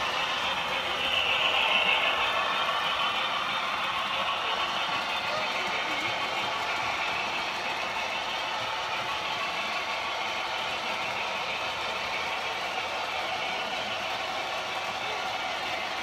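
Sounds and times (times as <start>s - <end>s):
model train wheels rolling: 0.0s - 16.0s.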